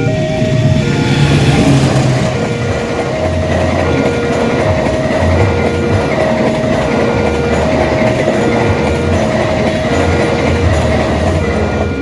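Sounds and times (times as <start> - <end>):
train passing: 0.0 - 12.0
two-tone crossing alarm: 0.0 - 12.0.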